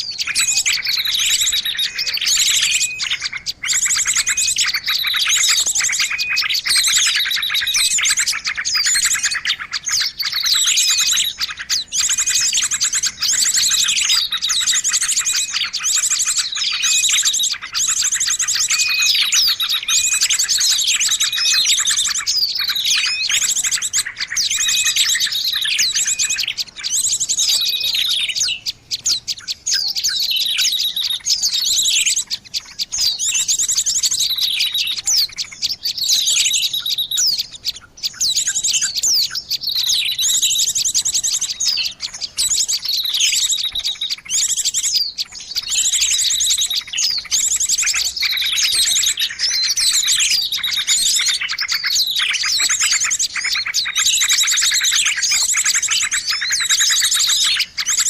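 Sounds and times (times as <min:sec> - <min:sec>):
small birds chattering and calling: 0:00.0 - 0:58.0.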